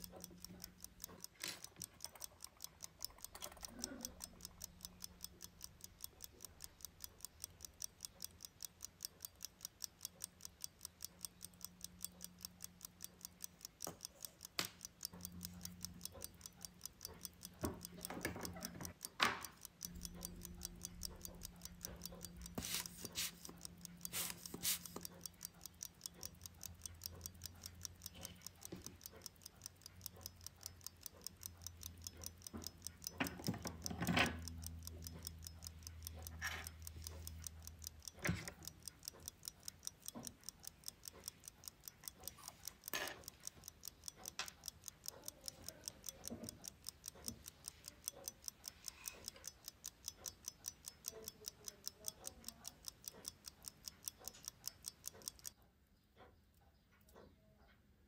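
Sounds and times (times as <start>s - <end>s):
pocket watch ticking: 0.0s - 58.0s.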